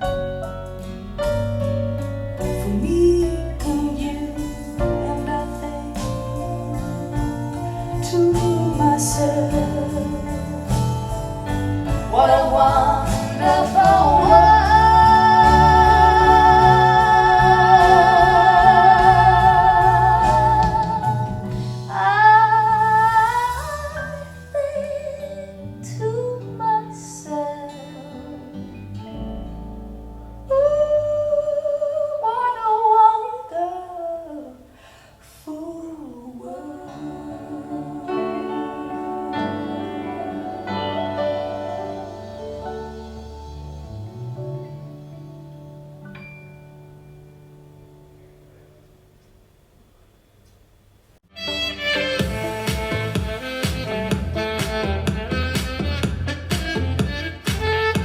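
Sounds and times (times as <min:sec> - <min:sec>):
folk song through speakers: 0:00.0 - 0:48.5.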